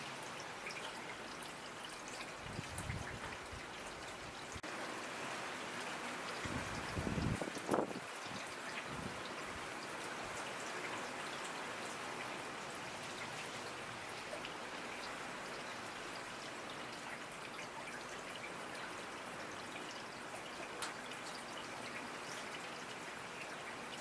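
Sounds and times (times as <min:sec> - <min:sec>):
rain pattering on a surface: 0:00.0 - 0:24.0.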